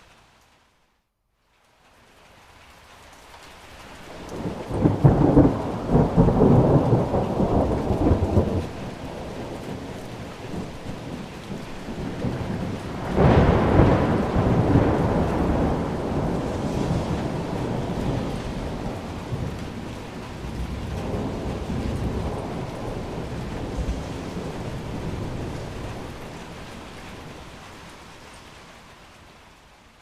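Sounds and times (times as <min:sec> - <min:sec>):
steady rain: 0:00.0 - 0:30.0
thunder rolling: 0:04.1 - 0:28.4.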